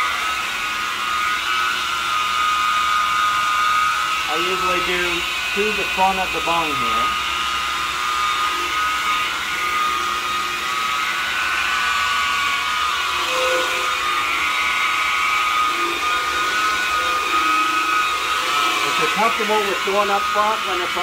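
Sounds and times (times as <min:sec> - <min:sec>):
rotary buffer motor whine: 0:00.0 - 0:21.0.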